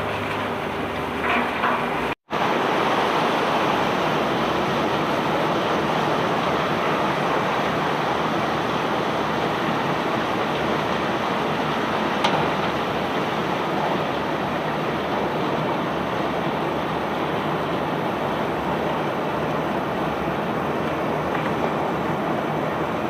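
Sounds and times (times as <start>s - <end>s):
barge discharging cargo rushing: 0.0s - 23.0s.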